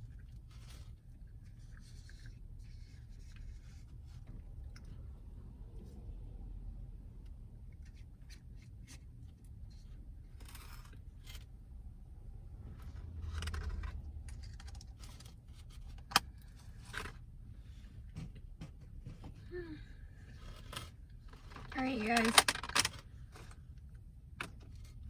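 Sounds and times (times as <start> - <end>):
rustling and scraping: 0.0 - 6.1, 7.6 - 11.8, 12.5 - 23.8.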